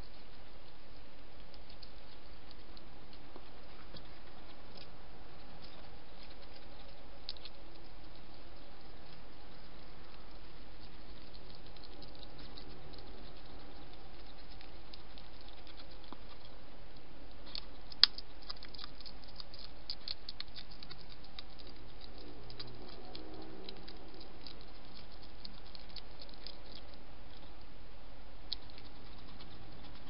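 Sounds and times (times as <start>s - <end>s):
hedgehog clicks and patters: 0.0s - 30.0s.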